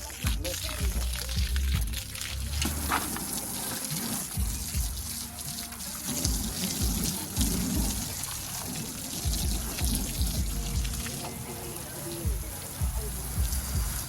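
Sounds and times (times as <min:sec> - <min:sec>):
music with heavy bass beat: 0:00.0 - 0:03.4, 0:04.2 - 0:14.0
water running and splashing: 0:00.0 - 0:14.0.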